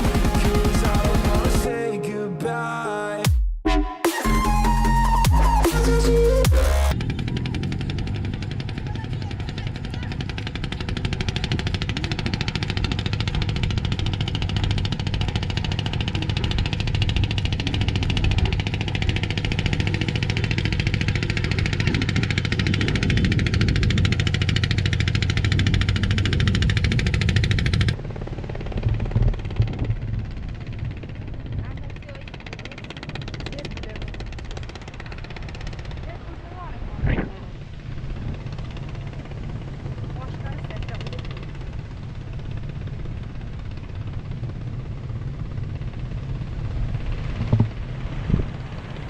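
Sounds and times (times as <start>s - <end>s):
small engine pulsing: 4.2s - 49.0s.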